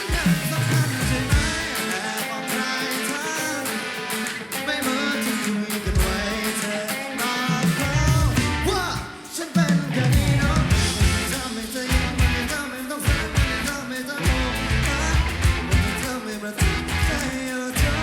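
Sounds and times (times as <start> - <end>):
lead vocal singing: 0.0 - 18.0
rock band playing: 0.0 - 18.0.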